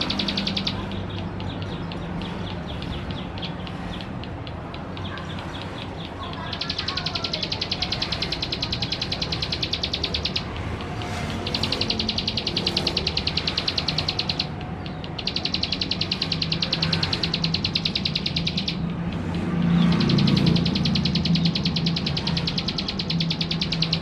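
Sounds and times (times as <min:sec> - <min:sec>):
bird buzzy trill: 0:00.0 - 0:24.0.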